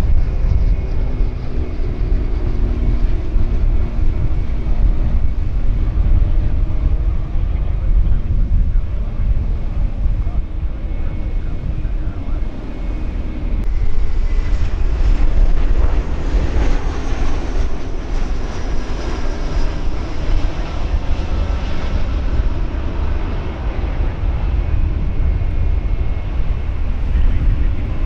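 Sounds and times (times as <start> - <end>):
faint high engine whine: 0.0 - 28.0
jet engines rumbling: 0.0 - 28.0
wind buffeting microphone: 0.0 - 28.0.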